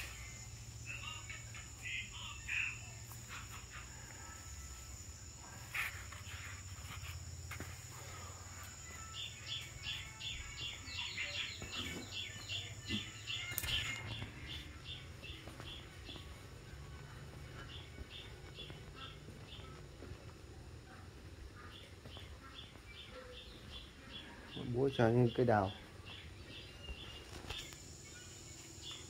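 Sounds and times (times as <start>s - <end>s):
high-pitched insect whine: 0.0s - 29.0s.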